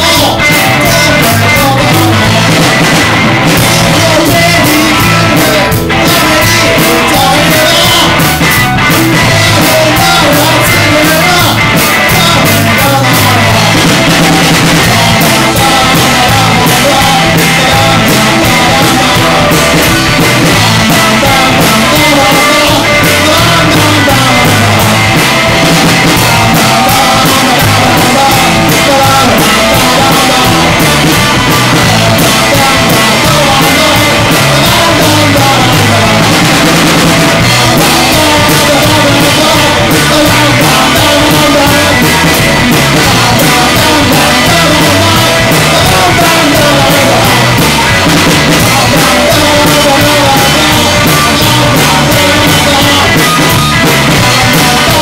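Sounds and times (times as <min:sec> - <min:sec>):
drum kit beat: 0:00.0 - 0:55.0
electric guitars: 0:00.0 - 0:55.0
man singing: 0:00.0 - 0:55.0.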